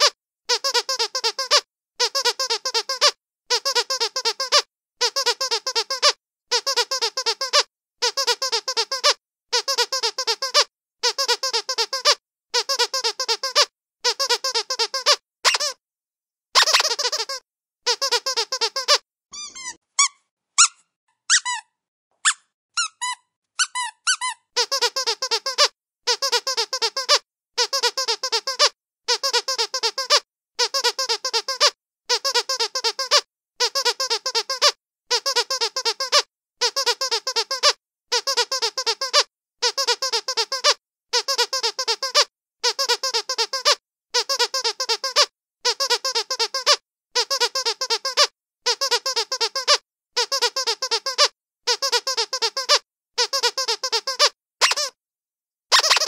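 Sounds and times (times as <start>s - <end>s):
squeaky dog toy squeaking: 0.0s - 15.8s, 16.6s - 55.0s, 55.7s - 56.0s.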